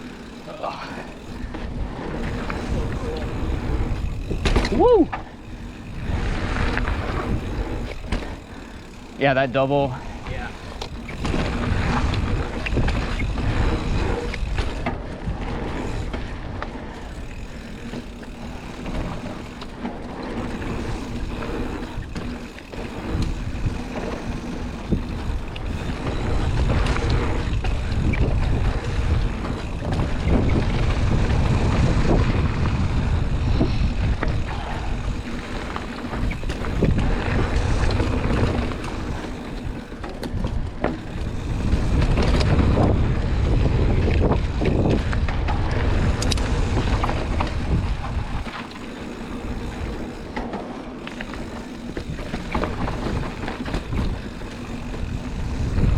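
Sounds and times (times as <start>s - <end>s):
rumble of riding on dirt trail: 0.0s - 55.9s
wind on microphone: 0.6s - 8.2s, 9.9s - 19.4s, 20.4s - 50.3s, 51.6s - 55.9s.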